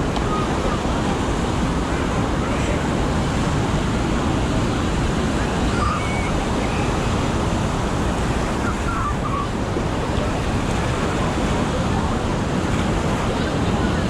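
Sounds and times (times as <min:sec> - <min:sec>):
ocean surf rushing: 0:00.0 - 0:14.0
wind noise on microphone: 0:00.0 - 0:14.0.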